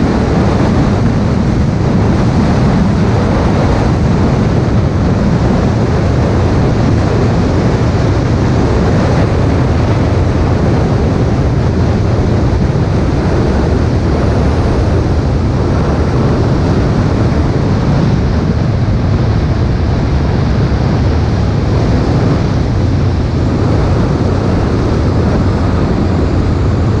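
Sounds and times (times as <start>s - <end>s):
wind buffeting microphone: 0.0s - 27.0s
wind rush: 0.0s - 27.0s.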